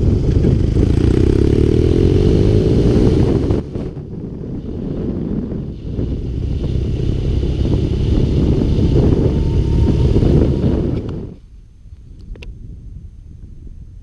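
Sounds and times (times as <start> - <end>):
motorcycle engine running: 0.0 - 11.4
wind buffeting microphone: 0.0 - 14.0.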